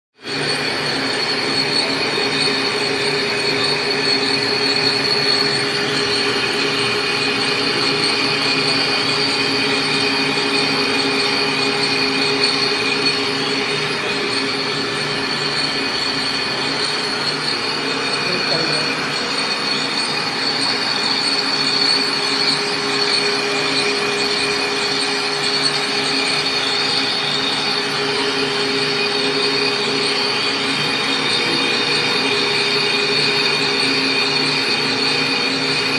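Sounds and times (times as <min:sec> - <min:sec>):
high-pitched squeal: 0:00.2 - 0:35.9
machinery running: 0:00.2 - 0:35.9.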